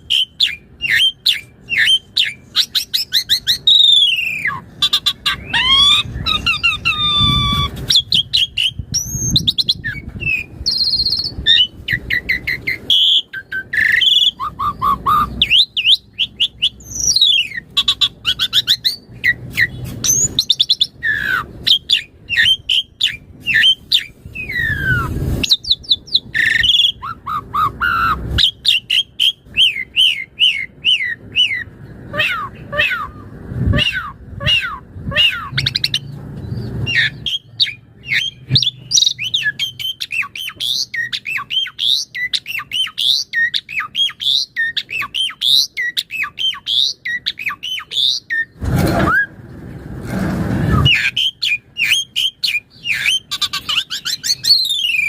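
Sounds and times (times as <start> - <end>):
starling singing: 0.0 - 49.3, 50.6 - 55.0.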